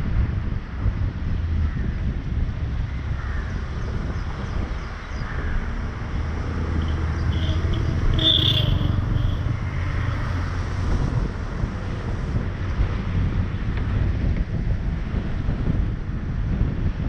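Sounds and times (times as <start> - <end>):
vehicle driving on wet road: 0.0 - 17.0
wind on microphone: 0.0 - 17.0.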